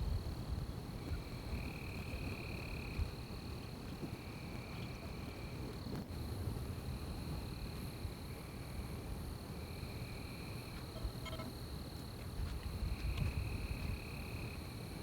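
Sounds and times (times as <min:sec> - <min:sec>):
lower intermittent insect trill: 0:00.0 - 0:15.0
high steady insect trill: 0:01.0 - 0:15.0.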